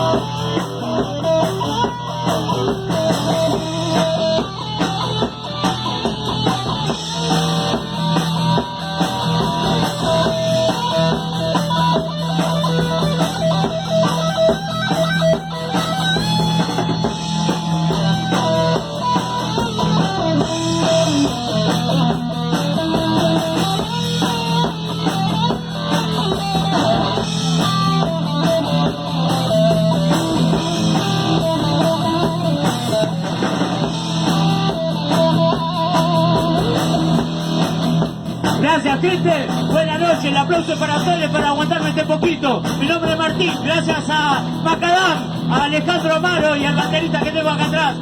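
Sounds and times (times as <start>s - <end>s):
bass guitar: 0.0s - 48.0s
drum kit: 0.0s - 48.0s
electric guitar lines: 0.0s - 48.0s.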